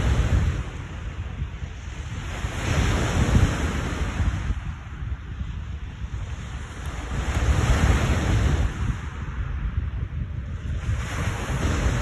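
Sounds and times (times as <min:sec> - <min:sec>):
waves washing against shore: 0:00.0 - 0:12.0
wind gusting on microphone: 0:00.0 - 0:12.0.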